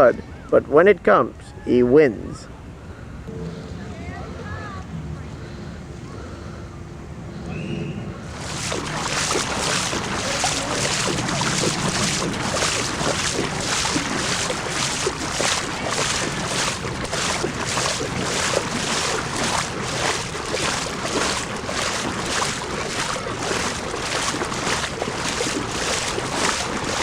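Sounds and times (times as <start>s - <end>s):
moving water hissing: 3.3s - 27.0s
splashing through deep water: 3.3s - 27.0s.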